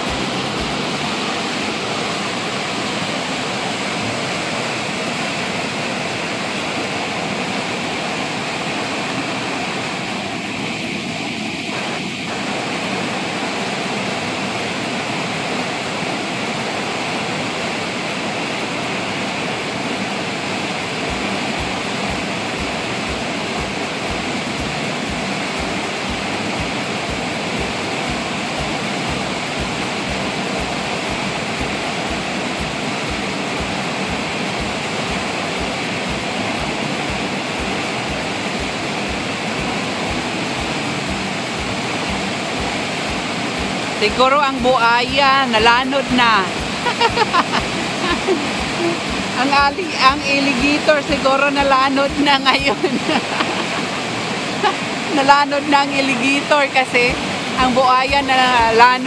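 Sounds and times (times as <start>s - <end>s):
floodwater rushing over rapids: 0.0s - 59.0s.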